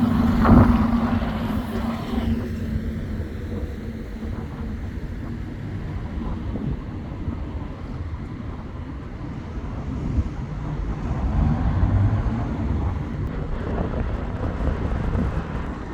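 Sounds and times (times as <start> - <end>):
vehicle engine rumble: 0.0 - 15.9
wind buffeting microphone: 0.0 - 15.9.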